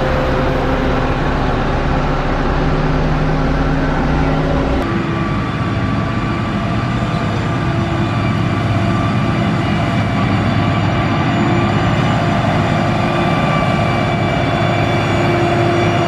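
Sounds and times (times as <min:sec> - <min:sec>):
diesel engine drone: 0:00.0 - 0:16.0
faint whine: 0:00.0 - 0:16.0.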